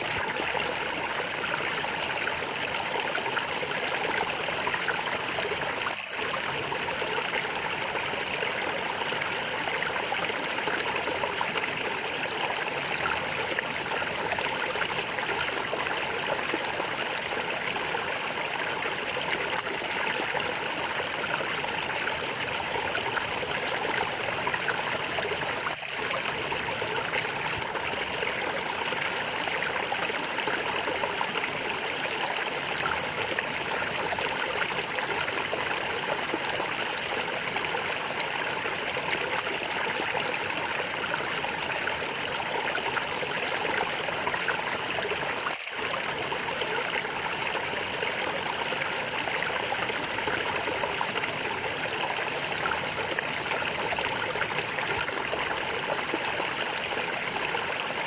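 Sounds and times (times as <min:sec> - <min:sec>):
water gurgling and trickling: 0:00.0 - 0:58.0.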